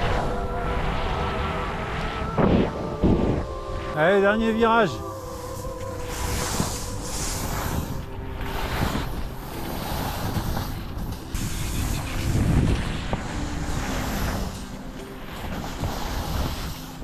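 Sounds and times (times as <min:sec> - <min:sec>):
skis hissing through snow: 0:00.0 - 0:17.0
wind buffeting microphone: 0:00.0 - 0:17.0.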